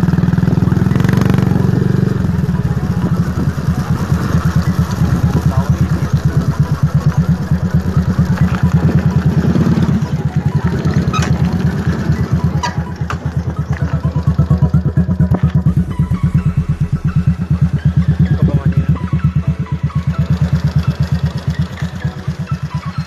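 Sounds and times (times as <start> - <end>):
motorcycle exhaust pulsing: 0.0 - 23.0.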